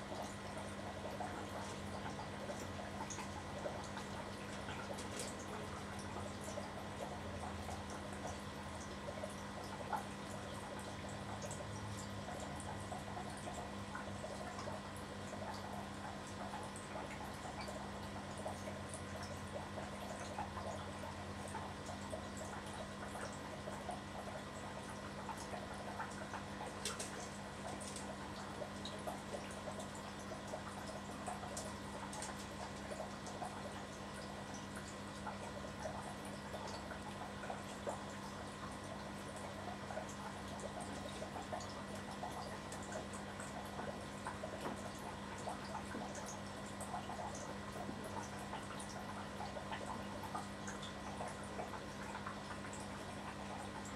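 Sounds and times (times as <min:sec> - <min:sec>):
water dripping and trickling: 0:00.0 - 0:53.9.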